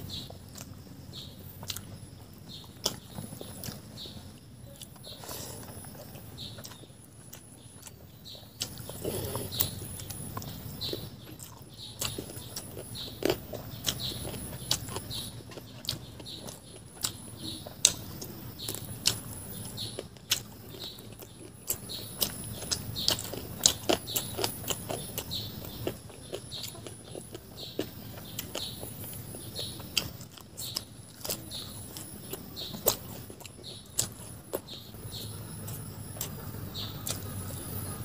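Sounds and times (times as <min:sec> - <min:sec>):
chewing food: 0:00.0 - 0:38.0.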